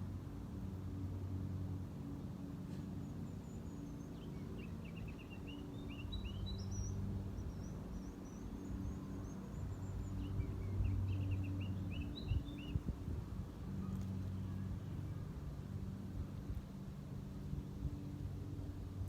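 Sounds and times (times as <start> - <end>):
songbirds chirping: 0.9 - 19.0.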